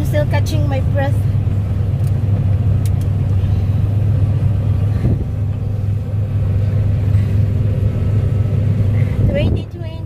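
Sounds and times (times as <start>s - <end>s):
combine harvester engine hum: 0.0s - 10.0s.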